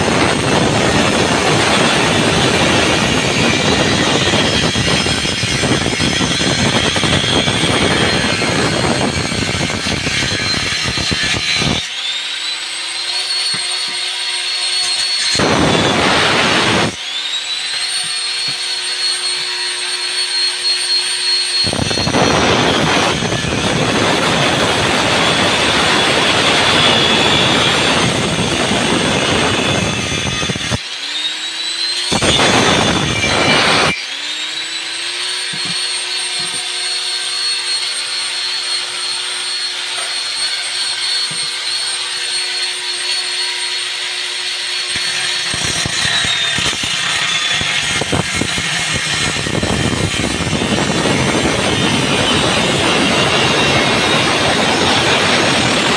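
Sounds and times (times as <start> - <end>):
motor whine spinning free: 0.0 - 14.1, 14.7 - 55.9
power tool working metal: 0.0 - 55.9.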